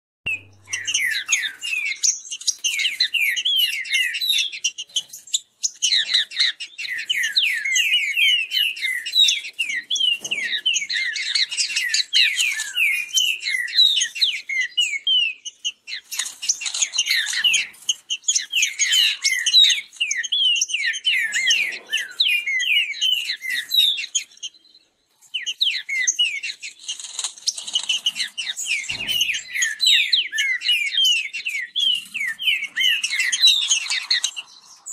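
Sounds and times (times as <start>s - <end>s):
birds singing rapid whistled notes: 0.3s - 34.9s.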